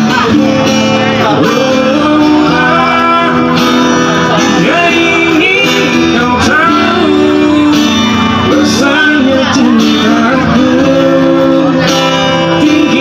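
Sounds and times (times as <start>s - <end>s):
song with guitar and singing: 0.0s - 13.0s.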